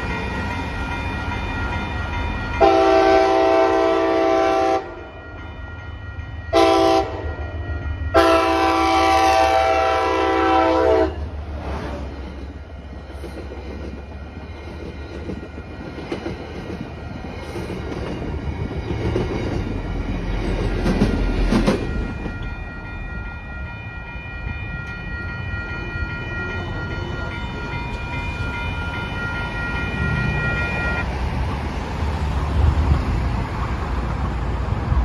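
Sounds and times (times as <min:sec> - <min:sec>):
crossing warning bell ringing: 0:00.0 - 0:11.4, 0:12.1 - 0:32.3.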